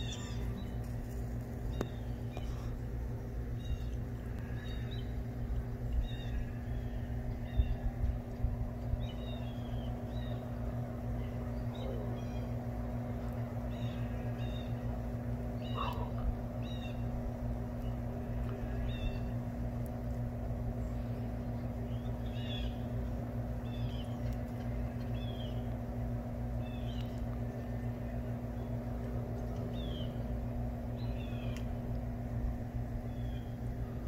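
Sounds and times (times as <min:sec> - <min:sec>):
small birds chirping: 0:00.0 - 0:34.0
steady low hum: 0:00.0 - 0:34.0.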